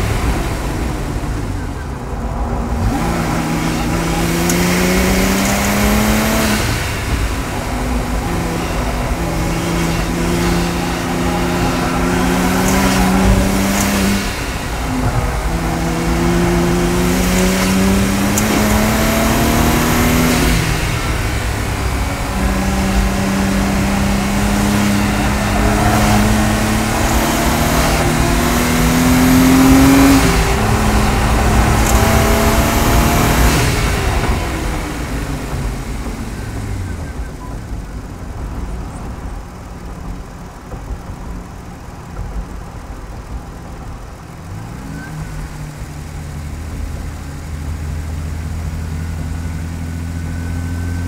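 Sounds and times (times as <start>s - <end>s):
car engine and exhaust accelerating: 0.0s - 51.0s
wind and road noise in cabin: 0.0s - 51.0s.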